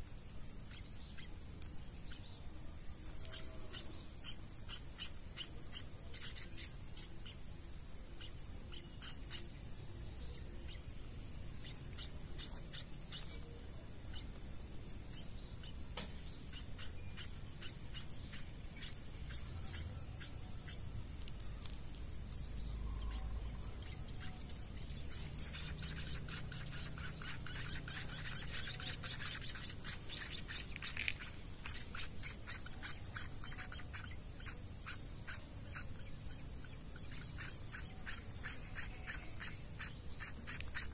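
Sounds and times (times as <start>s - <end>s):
nestlings begging chirps: 0.1s - 40.9s.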